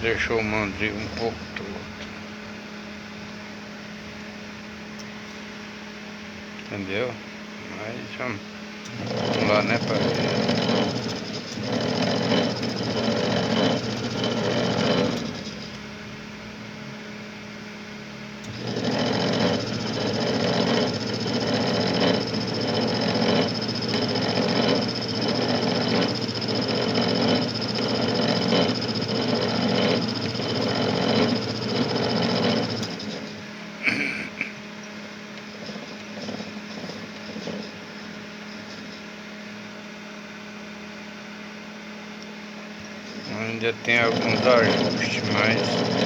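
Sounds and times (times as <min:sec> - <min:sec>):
coil winding machine pulsing hum: 0:00.0 - 0:46.0.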